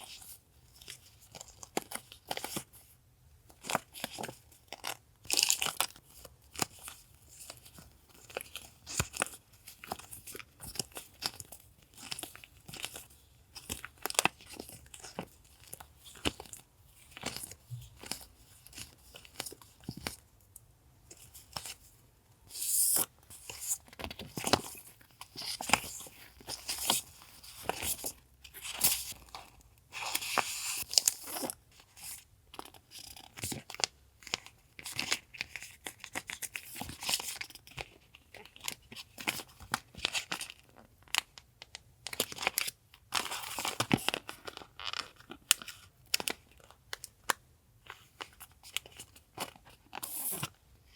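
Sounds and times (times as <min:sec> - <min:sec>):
packaging crinkling and rustling: 0:00.0 - 0:20.4, 0:21.1 - 0:50.9.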